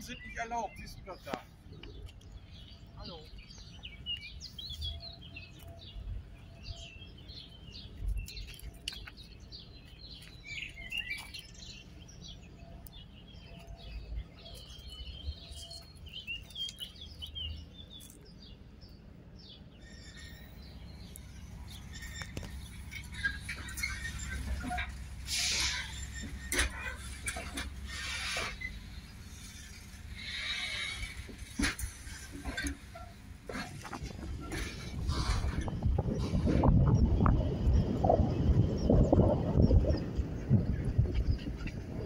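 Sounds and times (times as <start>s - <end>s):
songbirds chirping: 0.0s - 42.0s.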